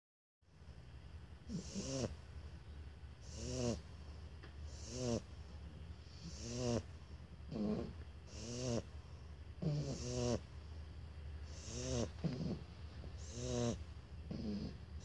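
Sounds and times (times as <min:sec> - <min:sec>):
puppies snoring: 0:01.4 - 0:02.5, 0:03.2 - 0:15.0.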